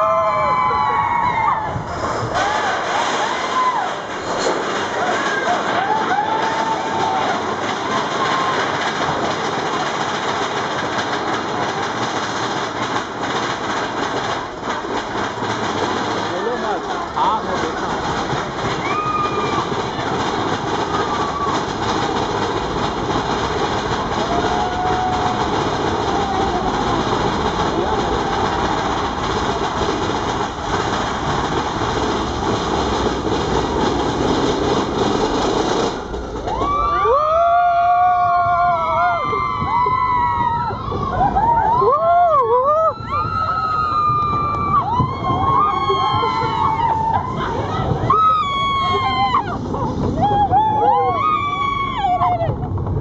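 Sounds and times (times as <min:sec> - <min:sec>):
riders whooping: 0:00.0 - 0:09.7, 0:14.0 - 0:53.0
roller coaster wheels on track: 0:00.0 - 0:53.0.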